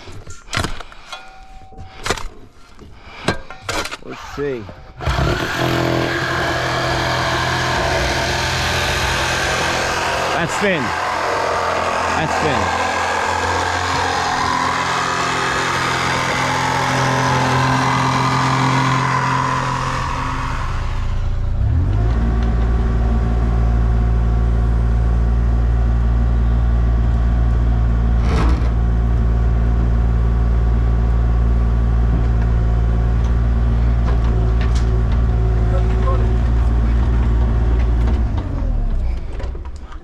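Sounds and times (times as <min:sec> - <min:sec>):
heavy equipment engine droning: 0:03.4 - 0:40.0.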